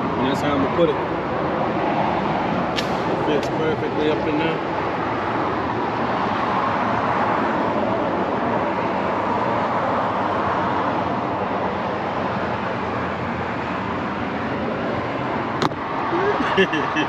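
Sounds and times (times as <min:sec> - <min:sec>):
rushing road traffic: 0:00.0 - 0:17.0.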